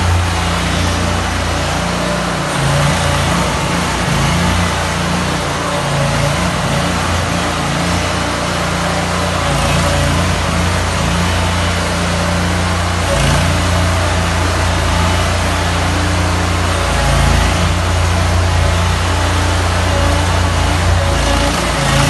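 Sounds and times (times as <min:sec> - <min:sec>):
floor scraper engine running: 0:00.0 - 0:22.0.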